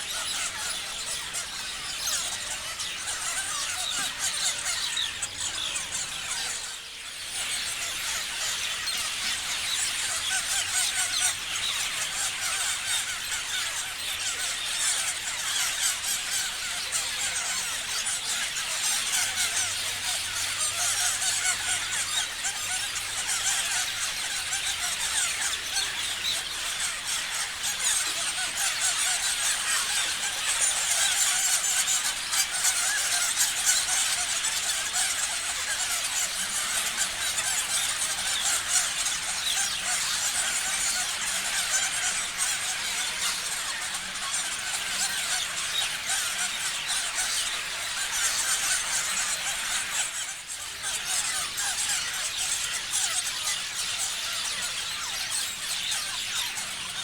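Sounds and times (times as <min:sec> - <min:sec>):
flock of parrots chirping: 0:00.0 - 0:57.0.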